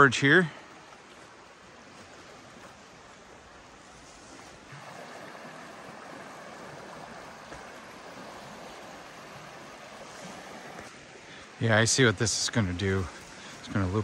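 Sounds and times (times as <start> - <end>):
creek rushing over rapids: 0.0 - 14.0.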